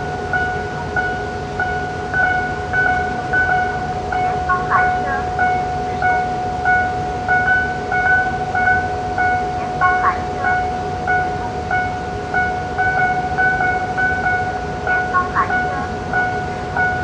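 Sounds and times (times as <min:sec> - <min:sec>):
crossing signal tone: 0:00.0 - 0:17.0
repeating electronic beep: 0:00.4 - 0:17.0.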